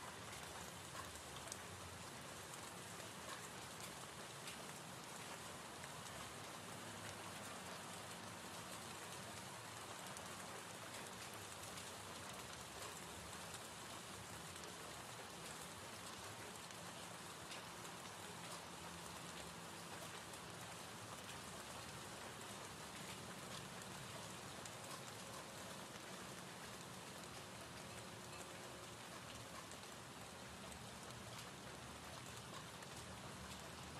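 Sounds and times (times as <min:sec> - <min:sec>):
gentle rain: 0:00.0 - 0:33.9.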